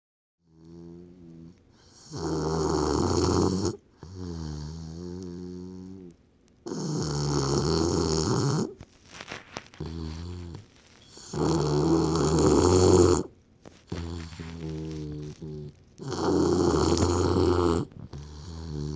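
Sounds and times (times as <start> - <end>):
person snoring: 0.5 - 6.1, 6.7 - 8.8, 9.8 - 13.3, 13.9 - 18.9.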